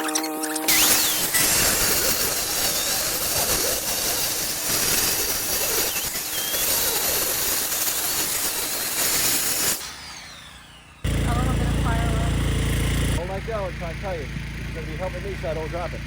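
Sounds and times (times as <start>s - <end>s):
power saw whine: 0.0s - 16.0s
saw cutting wood: 0.0s - 16.0s.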